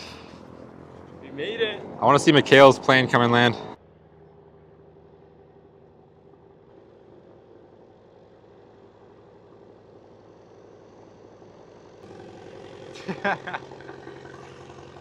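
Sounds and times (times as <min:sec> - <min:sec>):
light aircraft engine idling: 0:00.0 - 0:15.0.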